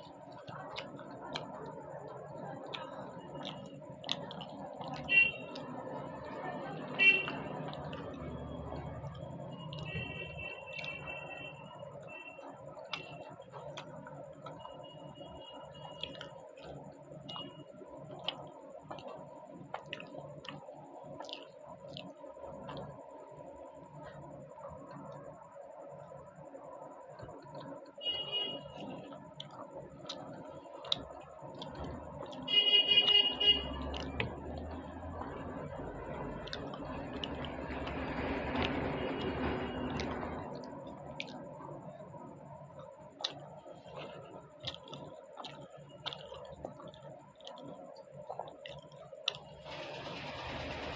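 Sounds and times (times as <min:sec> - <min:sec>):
mouth chewing wet clicks: 0:00.0 - 0:11.4, 0:12.0 - 0:25.4, 0:28.5 - 0:32.6, 0:33.6 - 0:49.6
steady background hum: 0:00.0 - 0:50.9.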